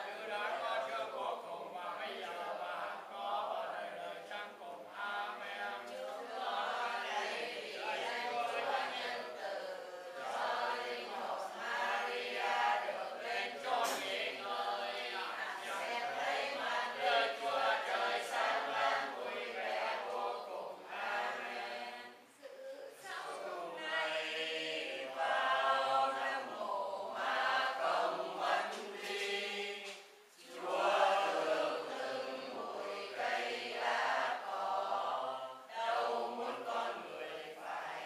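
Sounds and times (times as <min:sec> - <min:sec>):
congregation chanting prayers: 0:00.0 - 0:38.0.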